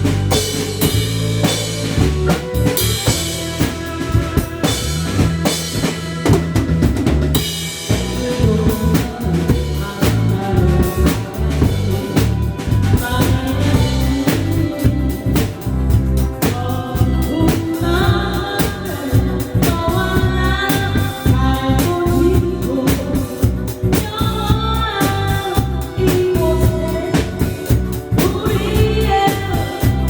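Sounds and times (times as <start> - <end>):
backing music: 0.0 - 30.0
drum kit playing: 0.0 - 30.0.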